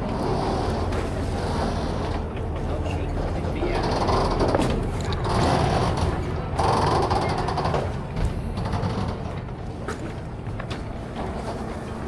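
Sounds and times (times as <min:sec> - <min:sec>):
creaks and rattles: 0:00.1 - 0:12.0.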